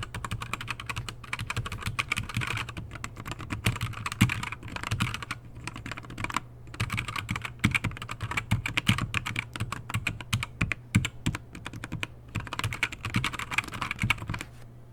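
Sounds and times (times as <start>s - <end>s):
typing on keyboard: 0.0s - 14.4s.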